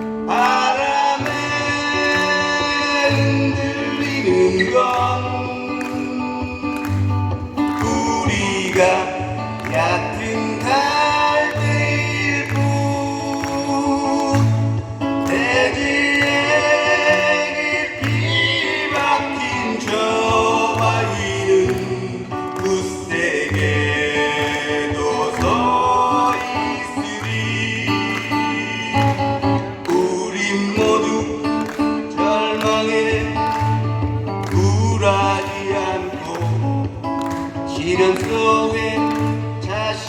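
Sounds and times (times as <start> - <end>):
man singing: 0.0 - 40.0.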